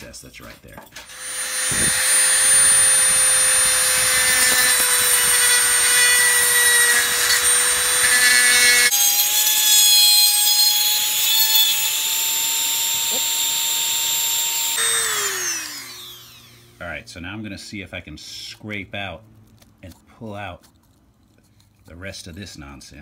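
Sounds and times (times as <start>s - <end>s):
rotary tool grinding: 1.0s - 16.8s, 19.2s - 22.7s.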